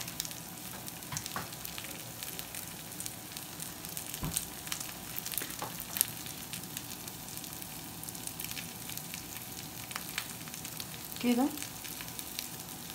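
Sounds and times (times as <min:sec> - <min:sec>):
food sizzling in hot oil: 0:00.0 - 0:12.9.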